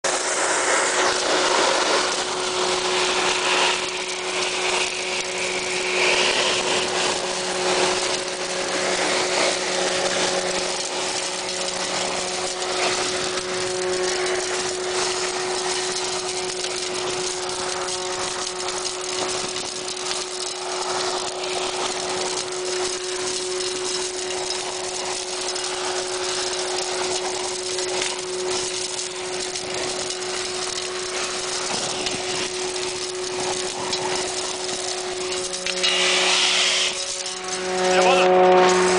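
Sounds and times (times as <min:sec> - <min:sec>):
grit crackling in pipe: 0:00.0 - 0:38.9
industrial vacuum sucking: 0:00.0 - 0:38.9.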